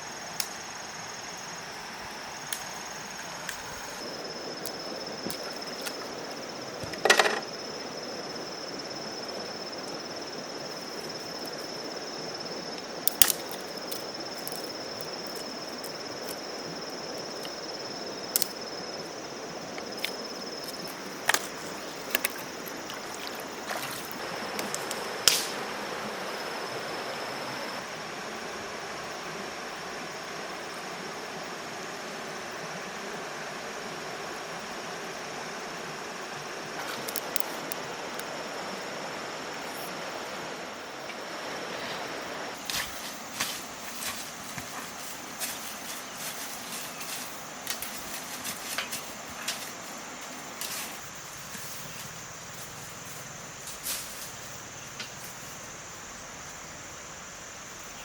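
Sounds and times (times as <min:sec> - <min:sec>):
background hiss: 0:00.0 - 0:58.0
high-pitched insect trill: 0:00.0 - 0:58.0.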